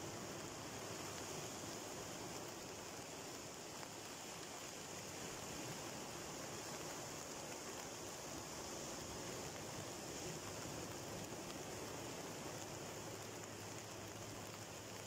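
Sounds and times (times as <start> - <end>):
sea waves washing over rocky shore: 0.0 - 15.0.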